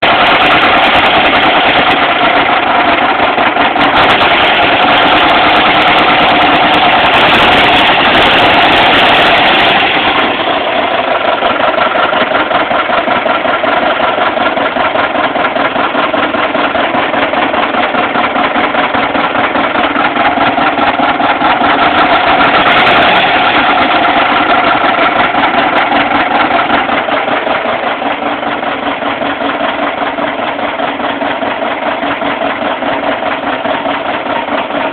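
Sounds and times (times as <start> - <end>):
engine running with rapid knock: 0.0 - 34.9.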